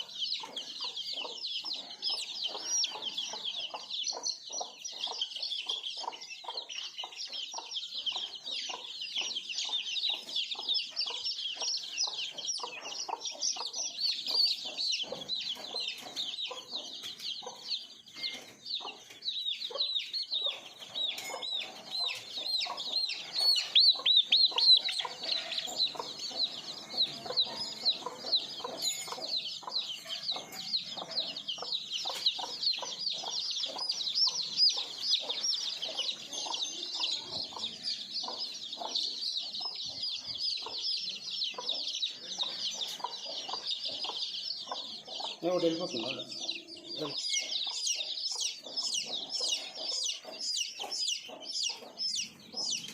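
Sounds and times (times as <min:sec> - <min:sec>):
chicks peeping: 0:00.0 - 0:52.9
hens clucking: 0:00.0 - 0:52.9.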